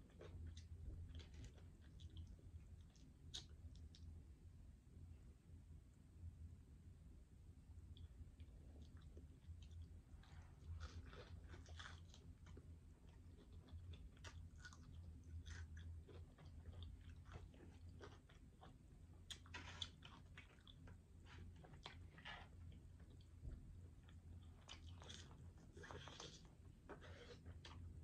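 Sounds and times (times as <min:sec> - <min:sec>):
chewing fried chicken: 0:00.0 - 0:04.1, 0:07.8 - 0:28.0
crunch: 0:00.0 - 0:04.1, 0:07.9 - 0:28.0
faint low hum: 0:00.0 - 0:28.0.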